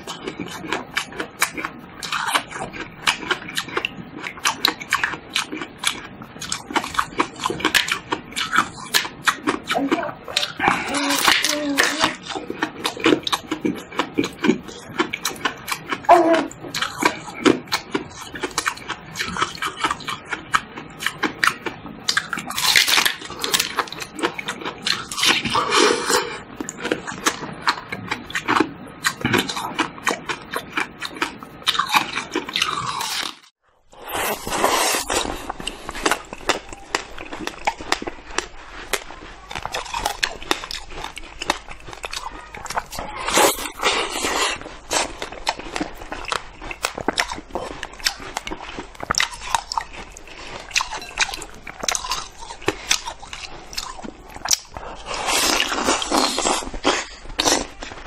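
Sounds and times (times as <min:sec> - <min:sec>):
ice being chewed and crunched: 0:00.0 - 0:58.0.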